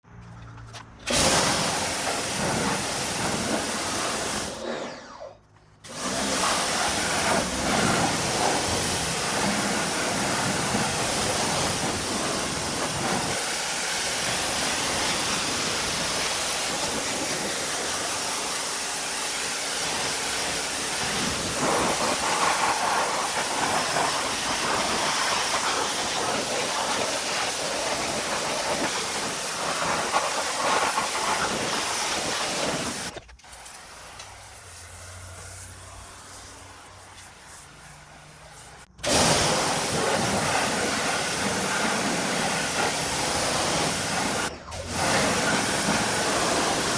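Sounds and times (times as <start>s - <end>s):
pressure washer spraying water: 1.1s - 4.7s, 5.8s - 46.9s.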